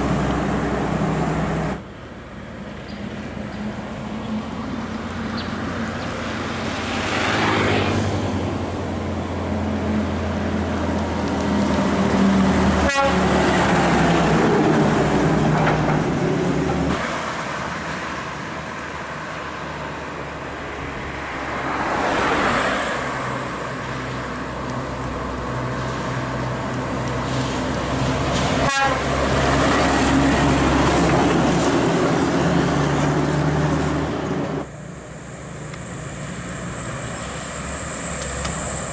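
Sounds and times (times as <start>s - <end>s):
diesel truck engines droning: 0.0s - 38.9s.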